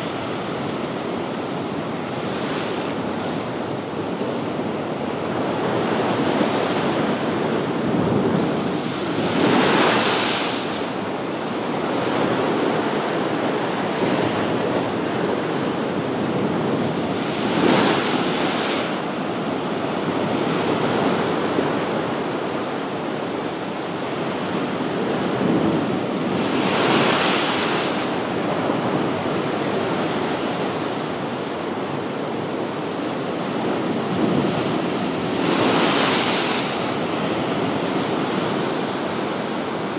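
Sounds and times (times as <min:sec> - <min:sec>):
waves crashing on rocky shore: 0:00.0 - 0:39.9.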